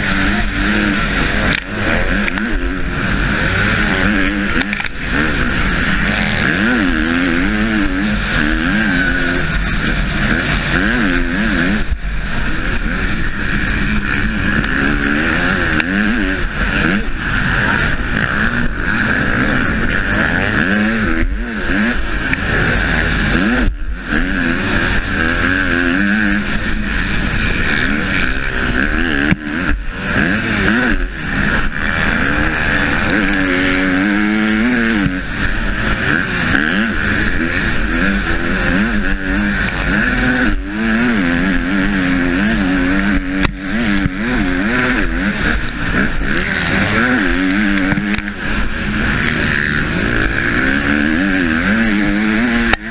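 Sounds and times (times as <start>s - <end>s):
motocross bike engine revving: 0.0s - 52.9s
steady rushing noise: 0.0s - 52.9s.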